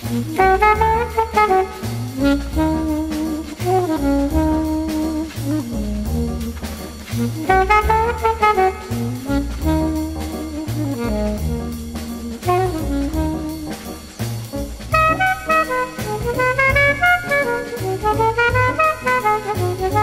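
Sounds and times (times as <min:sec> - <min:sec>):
bass line: 0:00.0 - 0:20.0
horn melody: 0:00.0 - 0:20.0.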